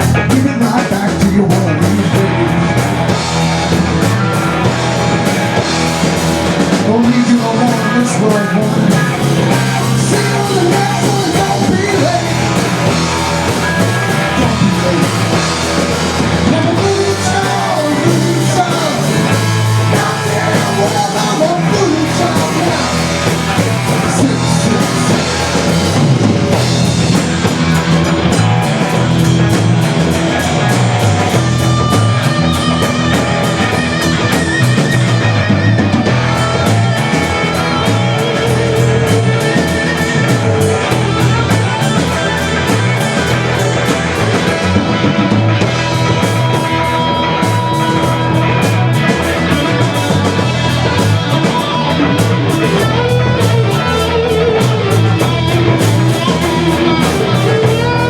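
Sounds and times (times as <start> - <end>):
drum kit steady beat: 0.0 - 58.0
electric guitar: 0.0 - 58.0.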